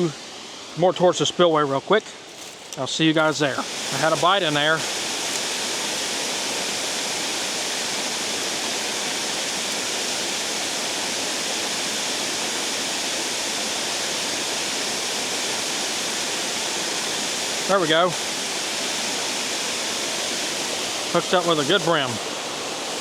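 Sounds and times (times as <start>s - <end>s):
water rushing over dam spillway: 0.0s - 23.0s.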